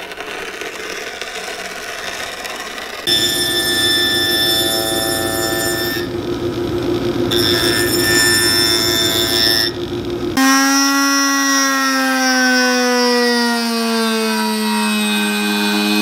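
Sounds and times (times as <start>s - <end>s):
machine motor hum and whine: 2.8s - 16.0s
motor hum falling in pitch: 3.0s - 16.0s.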